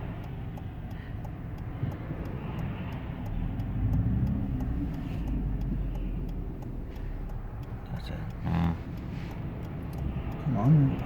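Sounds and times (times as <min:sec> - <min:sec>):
car engine and road rumble: 0:00.0 - 0:11.0
light even ticking: 0:00.0 - 0:11.0.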